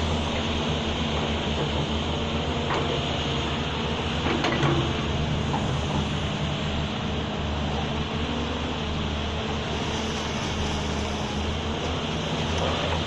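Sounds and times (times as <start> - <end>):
excavators running: 0.0 - 13.0.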